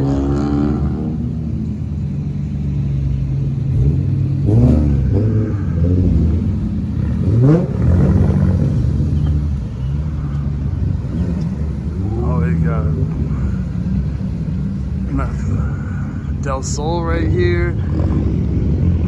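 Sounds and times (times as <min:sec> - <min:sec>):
car engines running: 0:00.0 - 0:19.0
car revving: 0:00.0 - 0:19.0.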